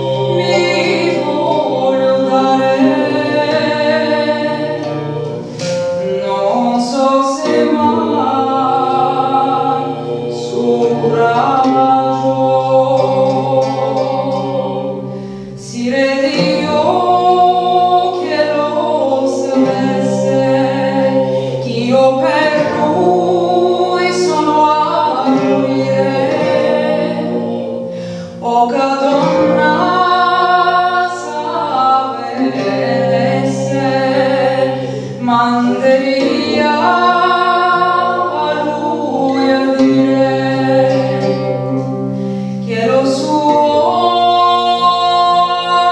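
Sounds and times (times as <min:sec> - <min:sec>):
plucked lute-like string instrument: 0:00.0 - 0:45.9
woman singing slow song: 0:00.0 - 0:45.9.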